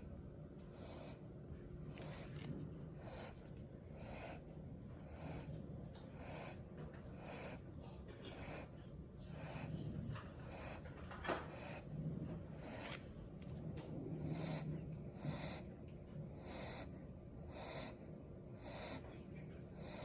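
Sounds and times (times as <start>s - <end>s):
puppy snoring softly: 0.7s - 1.2s, 1.8s - 20.0s.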